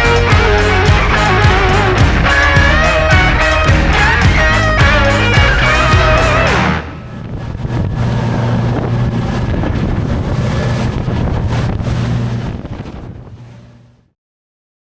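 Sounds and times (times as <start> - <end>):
water rushing along hull: 0.0 - 13.9
wind buffeting microphone: 0.0 - 14.0
motorboat engine running: 0.0 - 14.1.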